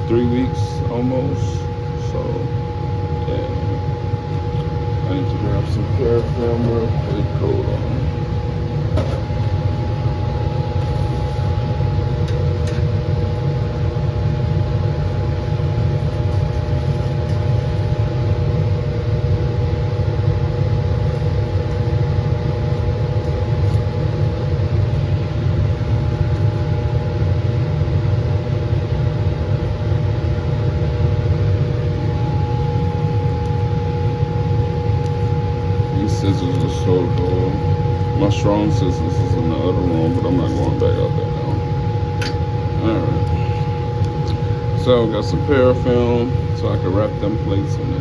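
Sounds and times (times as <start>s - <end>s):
blower fan roaring: 0.0s - 48.0s.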